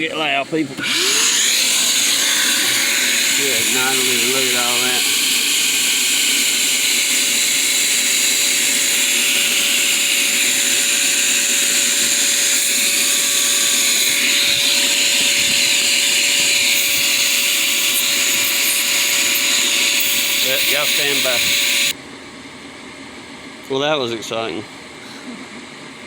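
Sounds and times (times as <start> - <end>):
vacuum motor running: 0.0 - 22.0.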